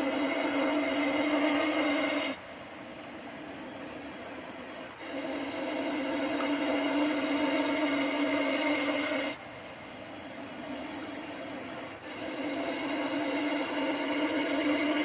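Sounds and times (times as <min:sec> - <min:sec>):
snake hissing: 0:00.0 - 0:15.0.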